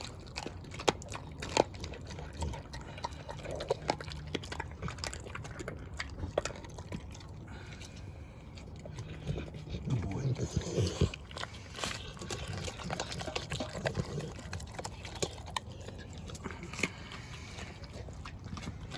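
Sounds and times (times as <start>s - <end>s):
dog chewing: 0.0s - 18.9s.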